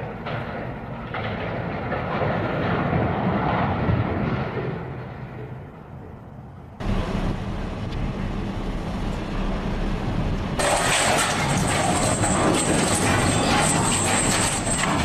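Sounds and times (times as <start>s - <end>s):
heavy machinery engine noise: 0.0s - 15.0s.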